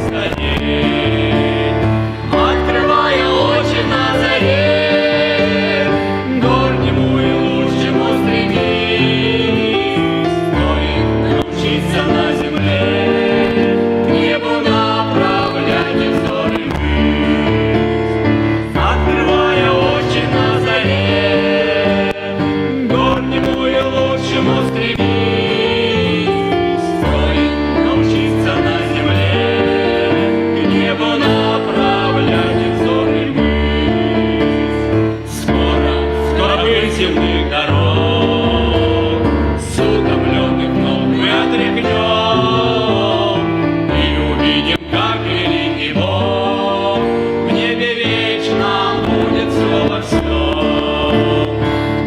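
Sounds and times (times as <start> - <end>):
voices singing: 0.0 - 52.0
worship song with keyboard: 0.0 - 52.0.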